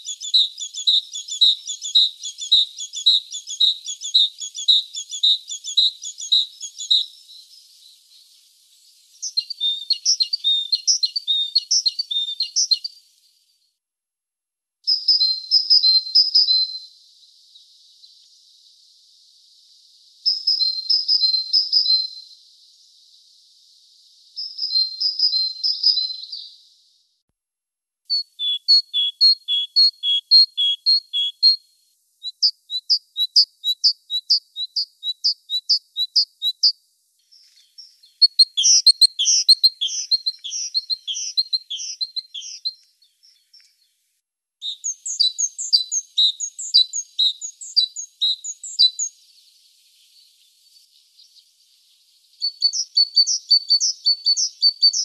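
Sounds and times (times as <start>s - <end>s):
great tit singing: 0.0s - 13.0s, 14.9s - 26.7s, 28.1s - 43.9s, 44.6s - 55.0s.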